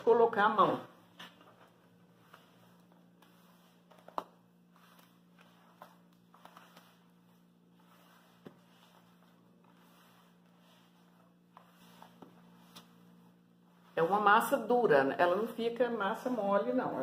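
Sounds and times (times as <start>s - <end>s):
hands kneading dough in bowl: 0.0s - 17.0s.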